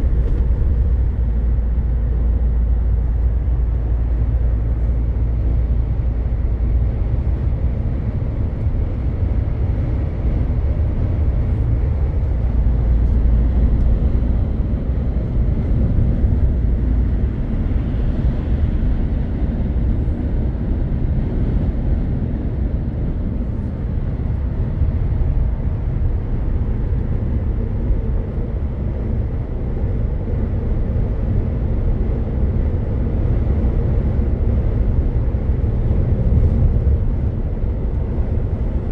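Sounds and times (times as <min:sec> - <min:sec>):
diesel engine drone: 0:00.0 - 0:38.9
road rumble: 0:00.0 - 0:38.9.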